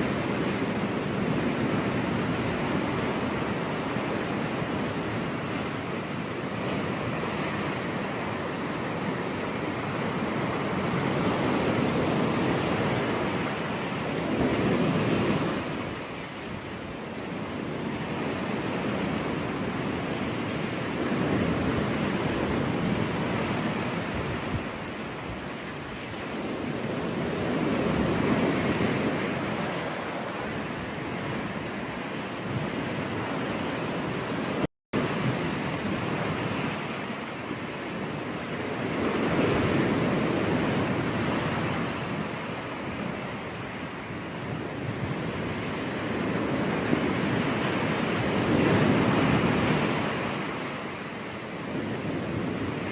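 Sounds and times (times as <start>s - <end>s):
ocean surf washing on beach: 0.0s - 52.9s.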